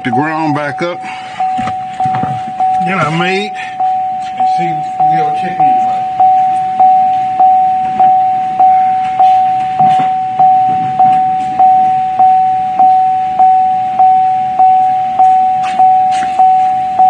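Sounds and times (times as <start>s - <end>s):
car warning chime dinging: 0.0s - 17.0s.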